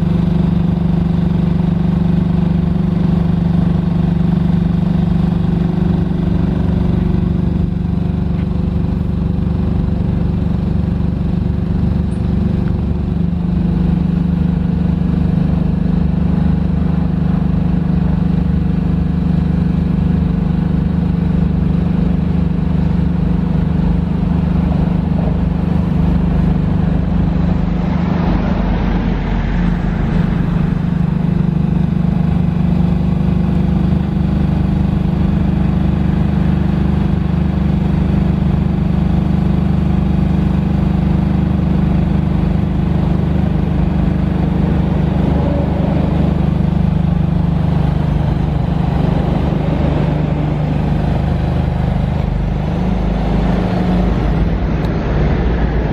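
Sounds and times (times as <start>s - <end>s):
diesel generator running: 0.0s - 55.9s.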